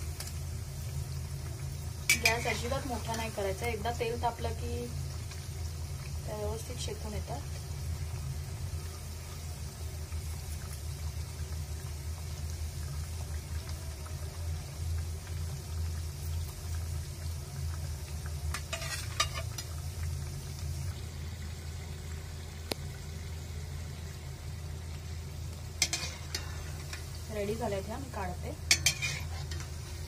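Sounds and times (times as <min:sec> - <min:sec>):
dough deep-frying in oil: 0:00.0 - 0:30.0.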